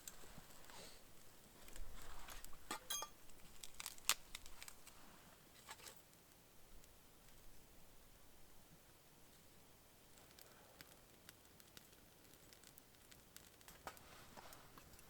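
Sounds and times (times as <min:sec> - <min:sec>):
small crackles and rustles: 0:00.0 - 0:15.0.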